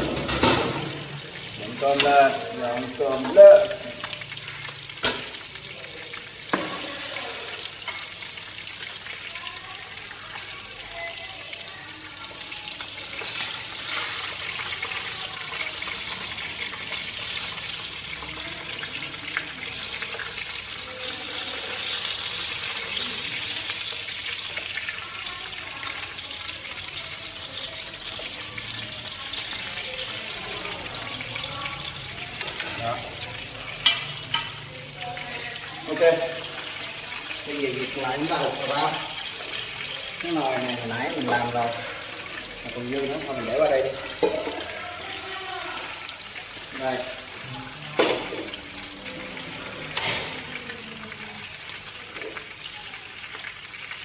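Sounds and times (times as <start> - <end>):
fish sizzling in a pan: 0.0 - 54.0.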